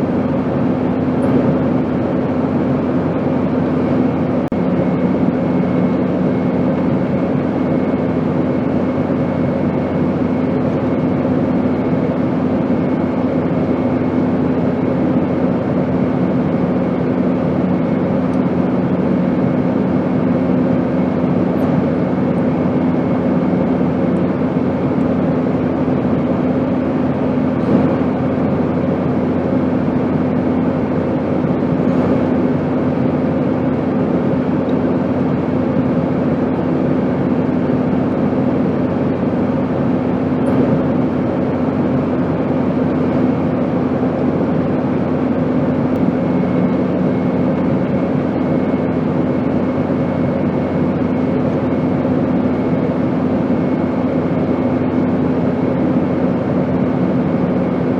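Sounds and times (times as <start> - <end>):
airplane rushing noise: 0.0 - 57.9.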